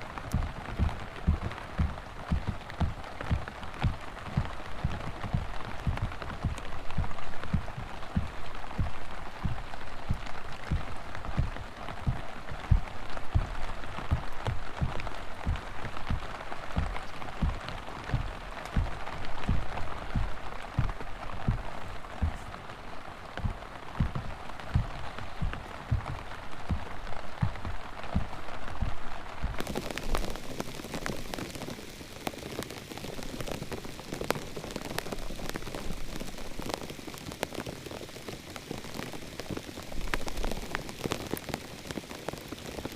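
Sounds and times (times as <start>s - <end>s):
heavy rain falling: 0.0s - 42.9s
large raindrops thudding: 0.0s - 42.9s.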